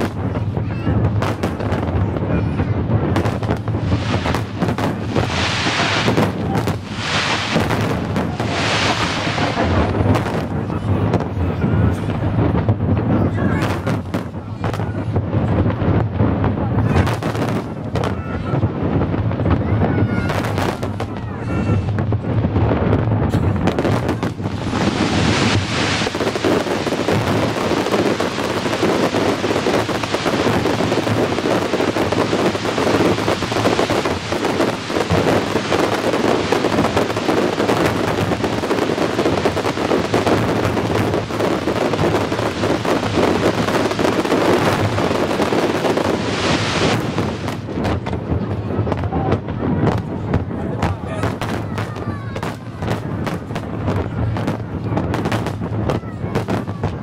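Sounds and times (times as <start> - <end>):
fireworks bursting and crackling: 0.0 - 57.0
hissing crackle of fireworks: 0.0 - 57.0.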